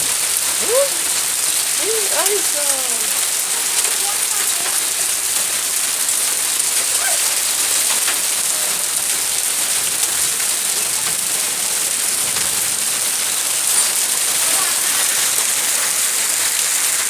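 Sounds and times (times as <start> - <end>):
hail and rain pelting down: 0.0 - 17.0
hailstones ticking: 0.0 - 17.0.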